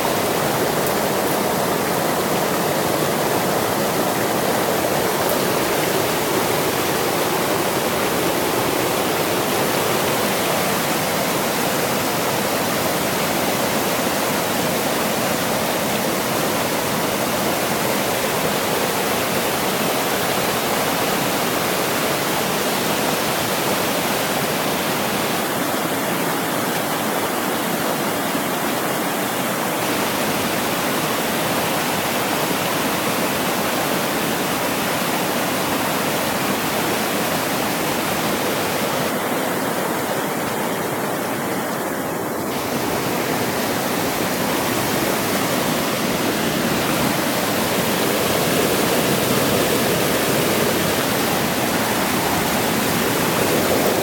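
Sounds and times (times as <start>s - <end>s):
whitewater rushing over rocks: 0.0s - 54.0s.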